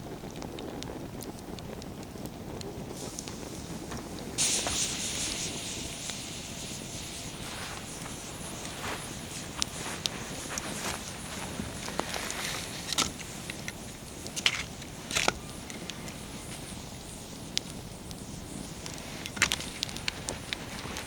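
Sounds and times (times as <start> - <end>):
fire hissing: 0.0 - 21.0
wood fire crackling and popping: 0.0 - 21.0.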